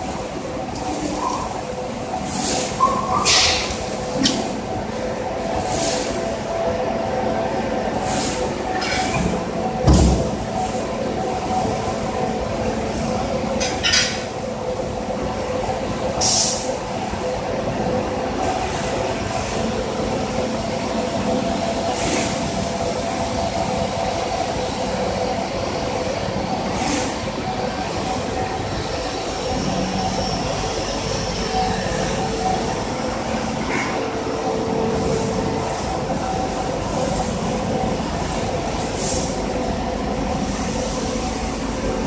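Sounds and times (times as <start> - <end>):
hydraulic press machine hum: 0.0 - 42.0.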